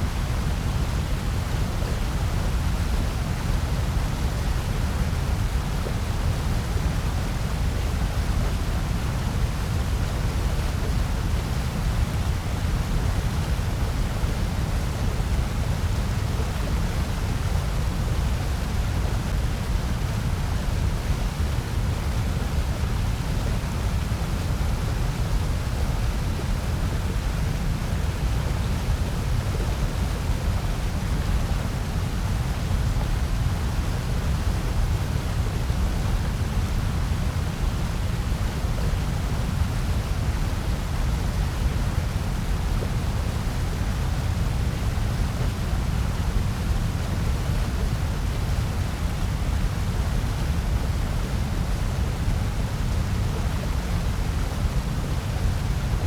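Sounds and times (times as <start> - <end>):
white noise: 0.0 - 56.0.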